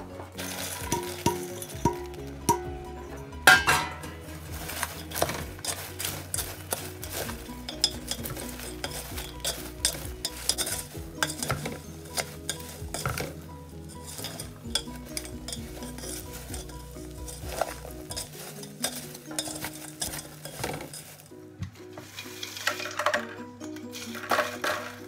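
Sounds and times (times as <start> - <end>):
popcorn rustling: 0.0 - 25.0
chopsticks tapping metal pot: 0.4 - 21.3.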